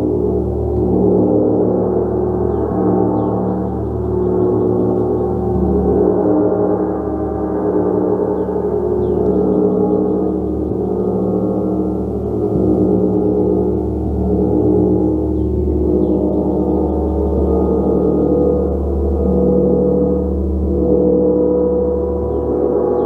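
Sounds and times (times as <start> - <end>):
large gong played: 0.0 - 23.0.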